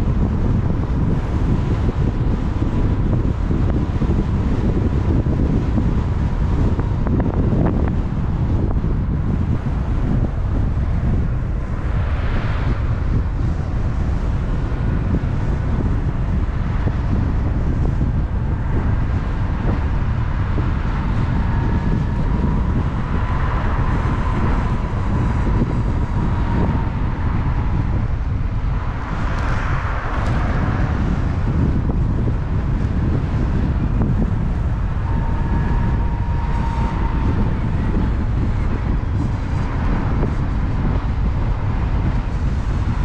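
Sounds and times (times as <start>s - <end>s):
road noise: 0.0s - 43.0s
wind buffeting microphone: 0.0s - 43.0s.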